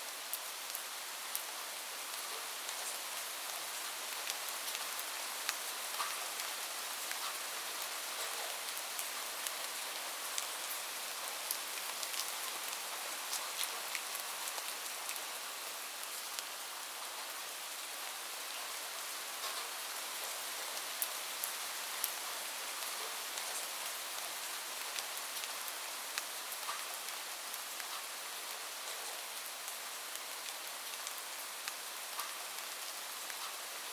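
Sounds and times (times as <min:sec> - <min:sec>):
light rain hiss: 0:00.0 - 0:33.9.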